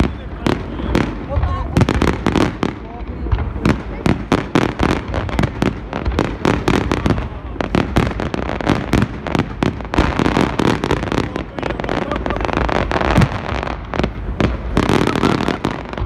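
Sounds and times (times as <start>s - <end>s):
fireworks barrage: 0.0s - 16.0s.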